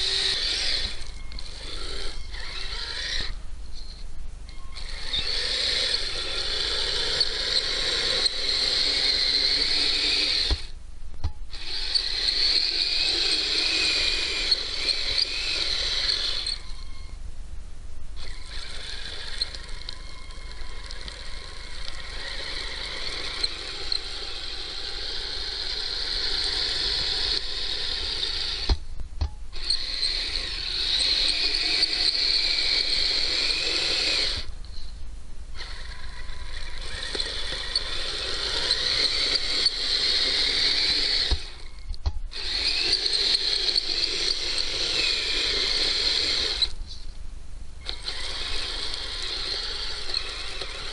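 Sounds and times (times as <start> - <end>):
small electric motor whining: 0.0 - 10.8, 11.5 - 17.2, 18.2 - 28.8, 29.5 - 34.9, 35.6 - 47.0, 47.8 - 50.9.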